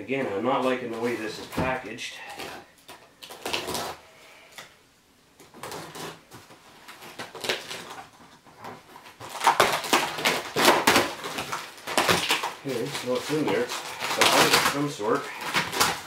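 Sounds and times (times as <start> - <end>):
packaging rustling and crinkling: 0.6 - 4.0, 5.4 - 16.0
packing tape cut and pulled: 2.3 - 4.7, 5.4 - 16.0.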